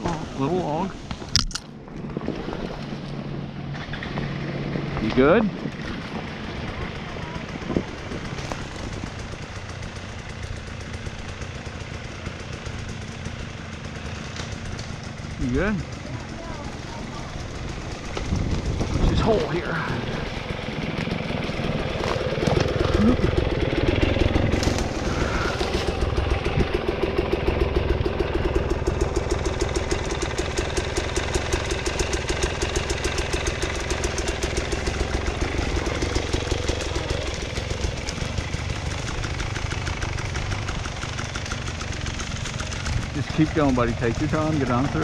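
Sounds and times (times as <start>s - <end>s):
dirt bike engine running: 0.0s - 45.0s.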